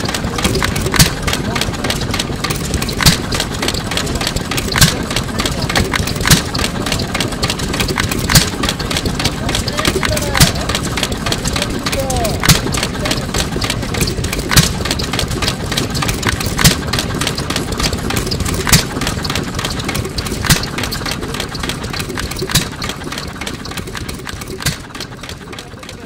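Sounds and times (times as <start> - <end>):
hit-and-miss engine firing: 0.0 - 26.0
valve gear clatter: 0.0 - 26.0.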